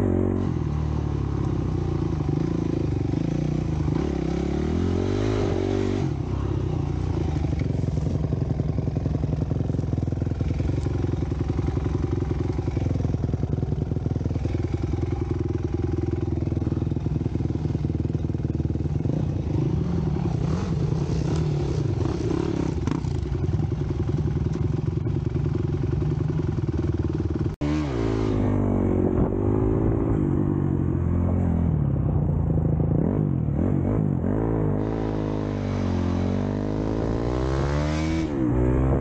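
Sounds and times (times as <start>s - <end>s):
dirt bike engine revving: 0.0s - 24.0s, 27.3s - 31.5s, 33.0s - 39.0s.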